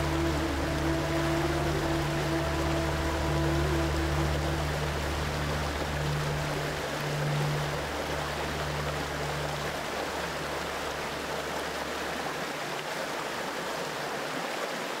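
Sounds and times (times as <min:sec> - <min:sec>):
low steady hum: 0:00.0 - 0:13.4
river rushing over rocks: 0:00.0 - 0:15.0.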